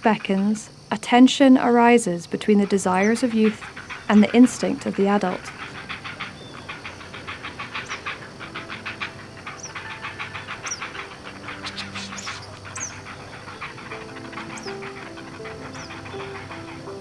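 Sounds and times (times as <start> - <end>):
heron chicks clattering calls: 0.0 - 17.0
high bird chirps: 2.7 - 17.0.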